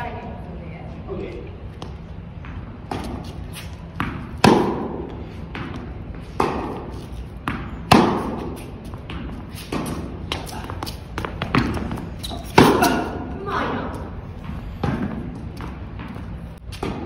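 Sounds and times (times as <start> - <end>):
tennis balls bouncing on court: 1.6 - 17.0
tennis balls struck by rackets: 1.8 - 17.0.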